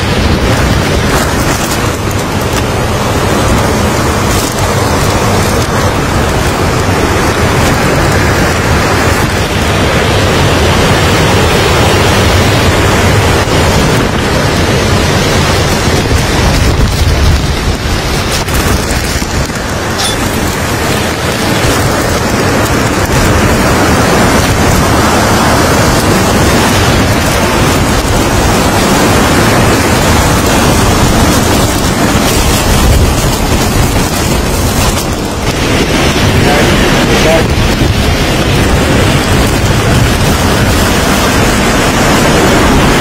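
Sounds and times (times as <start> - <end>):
heavy driving rain: 0.0 - 43.0
storm wind: 0.0 - 43.0.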